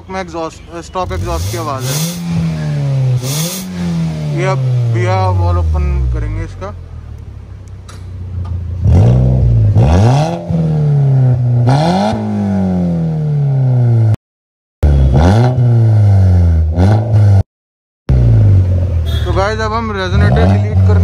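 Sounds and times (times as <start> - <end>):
car engine revving: 1.0 - 7.4, 8.7 - 14.2, 14.8 - 17.4, 18.1 - 21.0.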